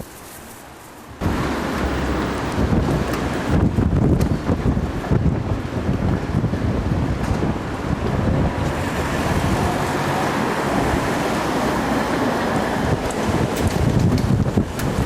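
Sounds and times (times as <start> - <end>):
gale-force wind buffeting microphone: 0.0 - 15.0.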